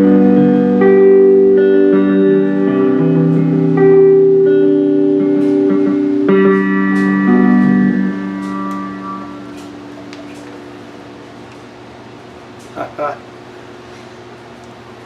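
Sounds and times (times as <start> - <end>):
electric guitar chords through amplifier: 0.0 - 12.3.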